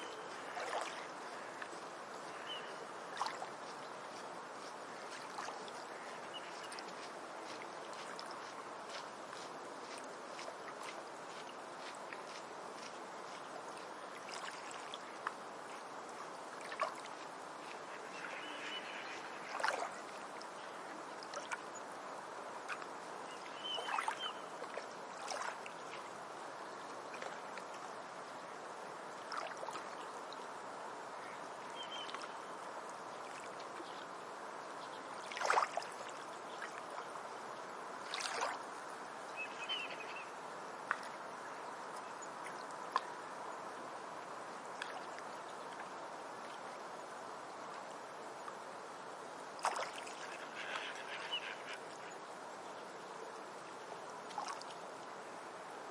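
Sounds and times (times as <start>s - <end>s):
water washing against shore: 0.0s - 43.4s, 44.0s - 52.1s, 53.5s - 55.9s
water splashes and laps: 0.0s - 55.9s.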